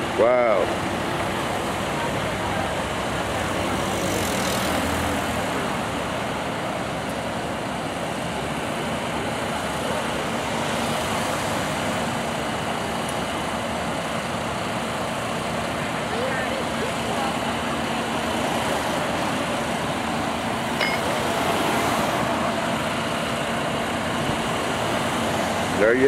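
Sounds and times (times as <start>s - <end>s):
engines and road traffic: 0.0s - 26.0s.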